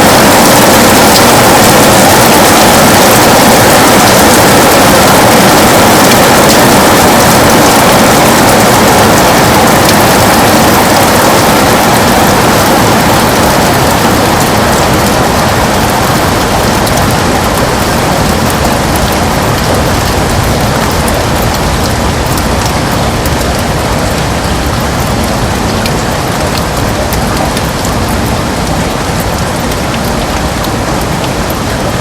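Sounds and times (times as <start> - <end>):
heavy rain on a window: 0.0 - 32.0.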